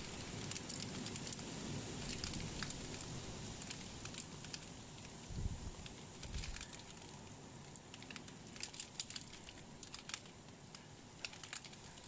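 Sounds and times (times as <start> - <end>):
hailstones ticking on surfaces: 0.0 - 12.0
steady hiss of precipitation: 0.0 - 12.0.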